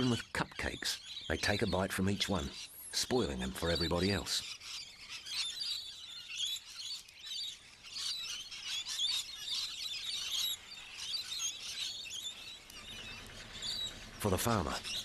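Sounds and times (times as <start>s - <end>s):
flock of parrots chirping and squawking: 0.0s - 15.0s.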